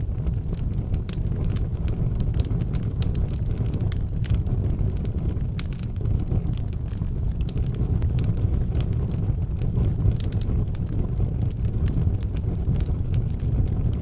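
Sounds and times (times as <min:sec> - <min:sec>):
fire crackling and popping: 0:00.0 - 0:14.0
wood fire flames rumbling: 0:00.0 - 0:14.0.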